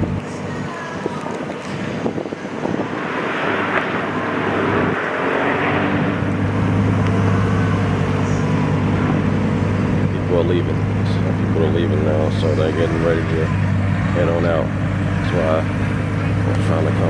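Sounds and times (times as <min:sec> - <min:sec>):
car engines running: 0:00.0 - 0:17.0
low engine drone: 0:00.0 - 0:17.0.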